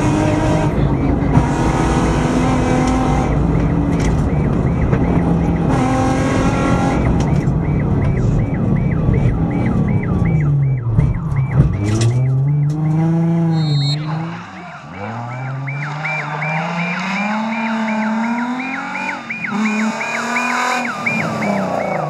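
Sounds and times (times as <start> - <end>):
car engine revving in cabin: 0.0 - 22.0.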